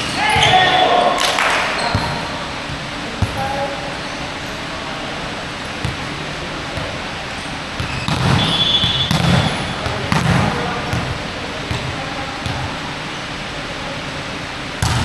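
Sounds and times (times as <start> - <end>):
basketball bouncing: 0.0 - 15.0
gym background: 0.0 - 15.0.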